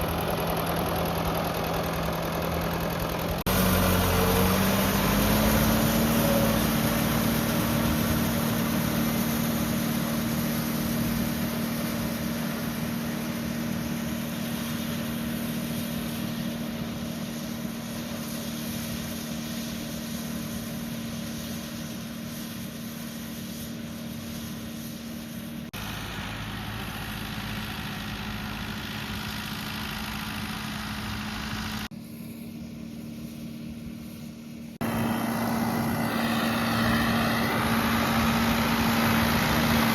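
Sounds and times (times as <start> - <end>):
tractor engine running: 0.0 - 32.1, 32.8 - 39.9.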